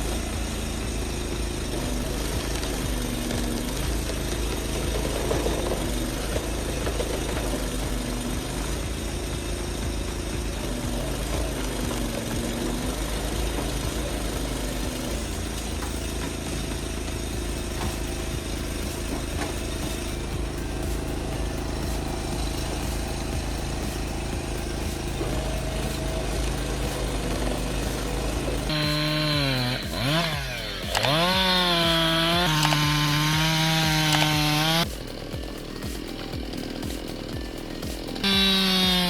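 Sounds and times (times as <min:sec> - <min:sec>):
heavy machine engine revving: 0:00.0 - 0:39.0
low rumble: 0:00.0 - 0:39.0.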